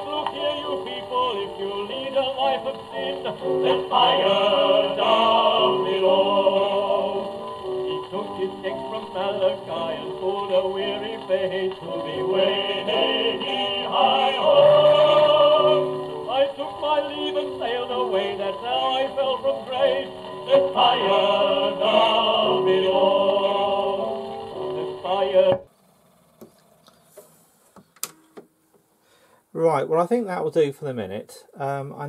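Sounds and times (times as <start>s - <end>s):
gramophone playing opera singing: 0.0s - 25.7s.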